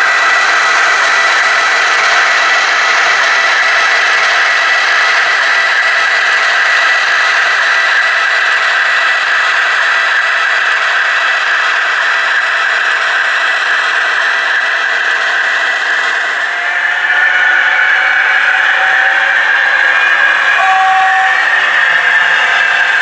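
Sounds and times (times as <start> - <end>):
model train motor whir: 0.0 - 23.0
wheels rattling on track: 0.0 - 23.0.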